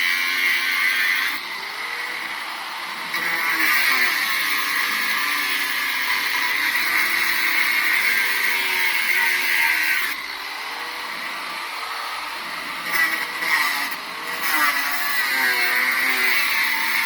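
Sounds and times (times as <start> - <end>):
angle grinder cutting steel: 0.0 - 17.0.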